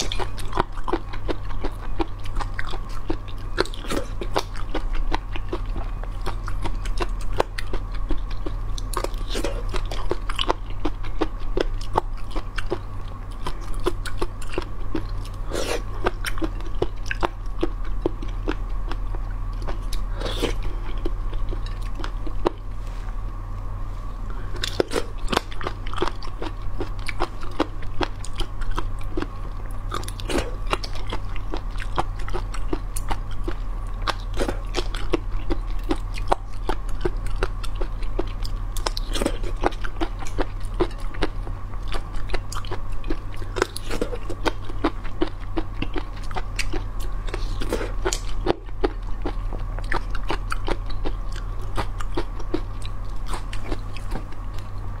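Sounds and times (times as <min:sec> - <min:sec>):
crunchy chewing: 0:00.0 - 0:55.0
electrical hum: 0:00.0 - 0:55.0.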